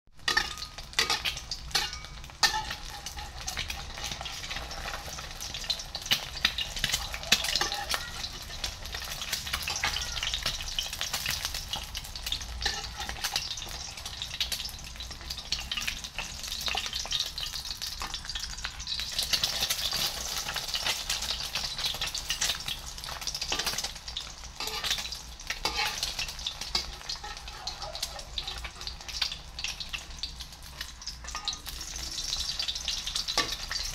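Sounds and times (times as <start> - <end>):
egg frying in oil: 0.2 - 33.9
metal spatula scraping pan: 0.2 - 33.9.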